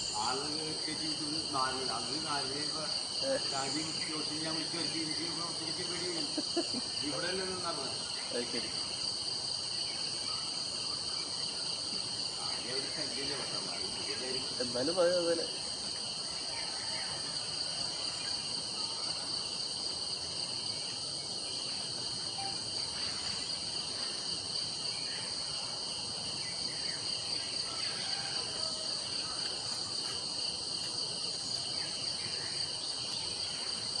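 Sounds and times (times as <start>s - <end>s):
forest insects chorus: 0.0s - 34.0s.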